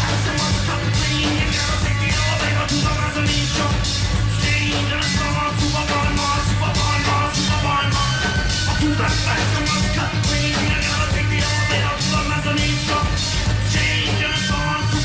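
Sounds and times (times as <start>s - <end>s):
driving drumbeat: 0.0s - 15.0s
live rock band playing: 0.0s - 15.0s
repeating bass riff: 0.0s - 15.0s.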